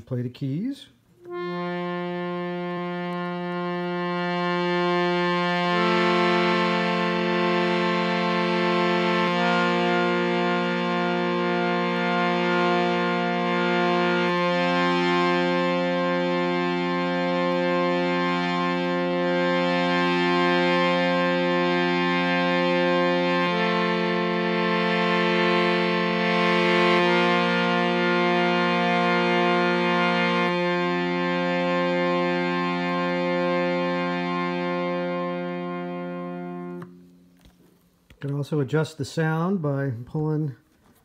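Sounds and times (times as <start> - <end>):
harmonium playing sustained chords: 0.0 - 37.7.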